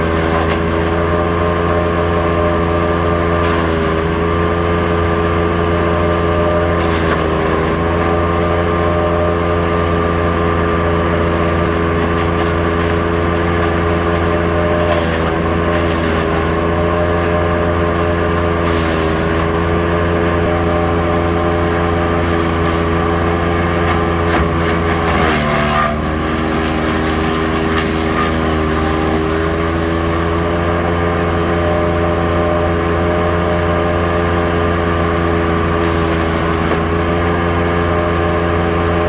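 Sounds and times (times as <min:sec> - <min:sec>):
wood chipper engine running: 0:00.0 - 0:39.0.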